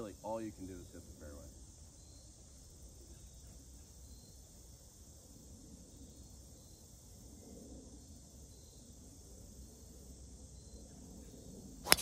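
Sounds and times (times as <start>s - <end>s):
faint steady hiss: 0.0s - 12.0s
insects chirping: 0.0s - 12.0s.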